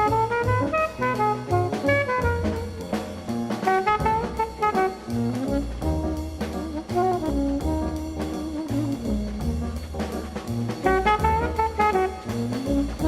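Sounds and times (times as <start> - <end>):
up-tempo jazz with brass: 0.0 - 13.0.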